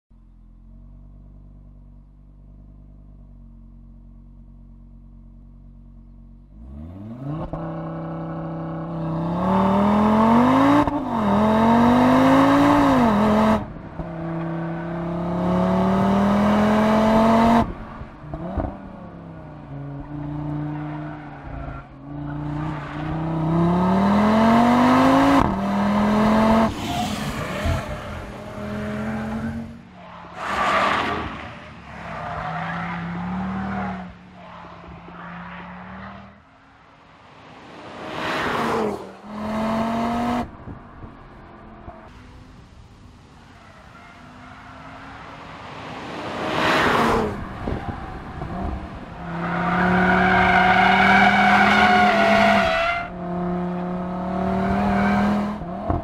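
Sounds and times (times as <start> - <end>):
car engine revving and accelerating: 6.5 - 36.4, 37.3 - 40.7, 44.4 - 56.0.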